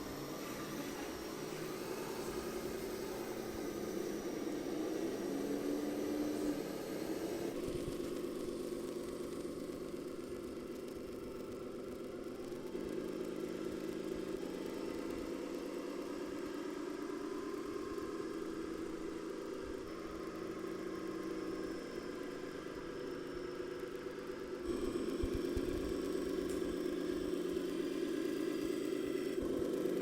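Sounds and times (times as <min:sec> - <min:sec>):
simulated diesel engine running: 0:00.0 - 0:30.0.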